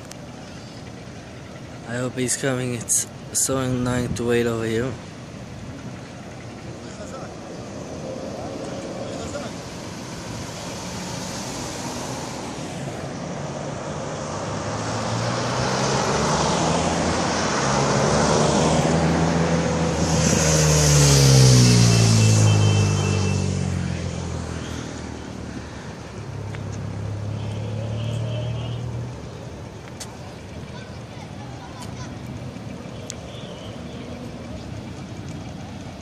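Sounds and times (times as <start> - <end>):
street traffic noise: 0.0 - 36.0.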